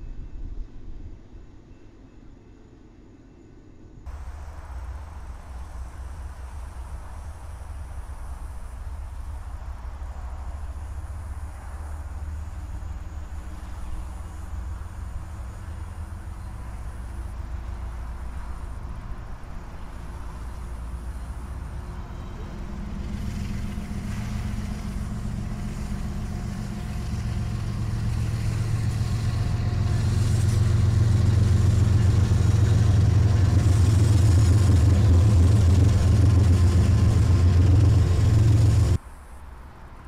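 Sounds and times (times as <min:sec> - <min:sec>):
diesel locomotive engine rumble: 0:00.0 - 0:40.0.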